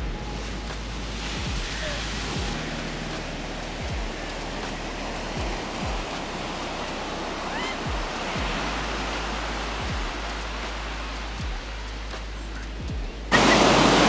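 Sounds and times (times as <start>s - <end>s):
music with deep bass drop: 0.0s - 14.0s
ocean surf rushing: 0.0s - 14.0s.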